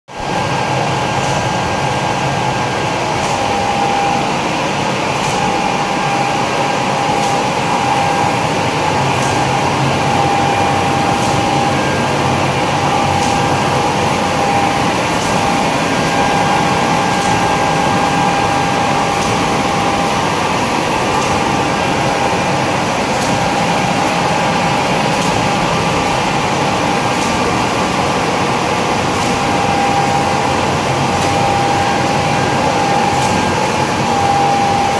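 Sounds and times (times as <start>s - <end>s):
machine humming with whine: 0.1s - 34.9s.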